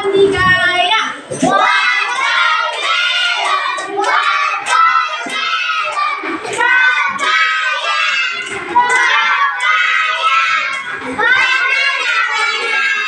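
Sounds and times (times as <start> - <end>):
children singing in unison: 1.3 - 13.0
rhythmic clapping: 1.3 - 13.0.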